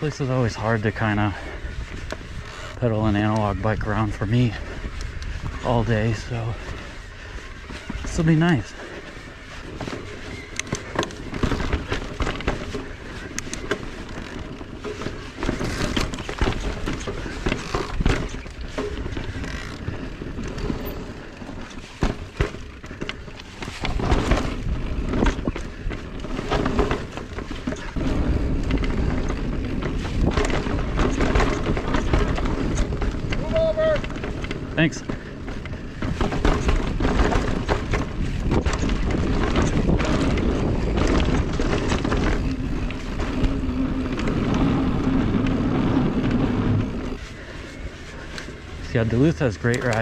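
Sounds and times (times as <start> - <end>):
bike knocking and rattling: 0.0 - 50.0
wind rumbling on microphone: 0.0 - 50.0.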